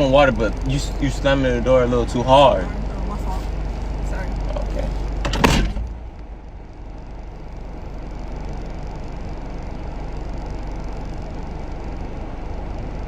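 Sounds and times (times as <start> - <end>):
car engine idling rumble: 0.0 - 13.0.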